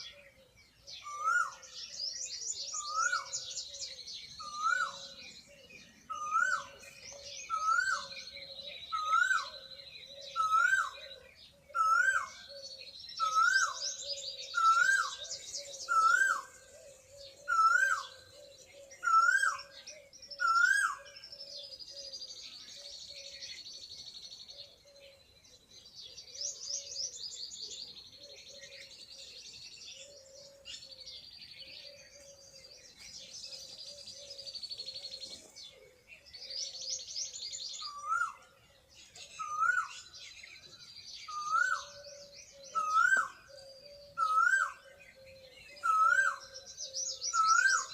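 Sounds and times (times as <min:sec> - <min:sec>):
birds singing and chirping: 0:00.0 - 0:47.9.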